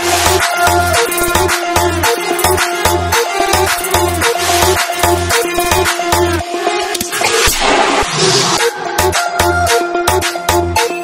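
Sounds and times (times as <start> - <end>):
background music with steady beat: 0.0 - 11.0
repeating bass notes: 0.0 - 11.0.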